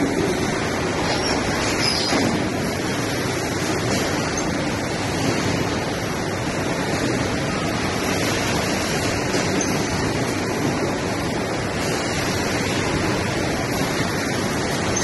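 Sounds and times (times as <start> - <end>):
packaging machinery running: 0.0 - 15.0.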